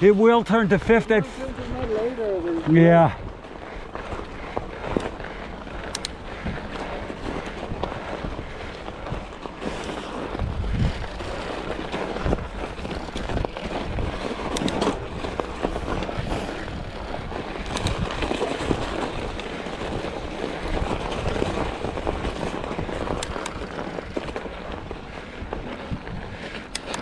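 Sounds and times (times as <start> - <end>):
bike tyres on trail: 0.0 - 27.0
bike knocks and rattles: 3.6 - 27.0.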